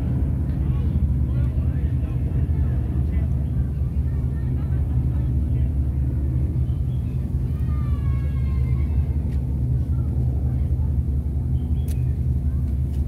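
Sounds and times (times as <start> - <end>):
low mechanical city rumble: 0.0 - 13.0
faint voice: 0.6 - 11.2.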